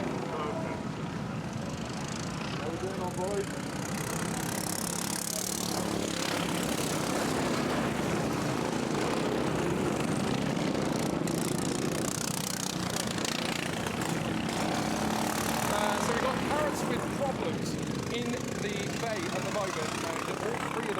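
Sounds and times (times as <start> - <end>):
racing lawnmower engines: 0.0 - 20.9.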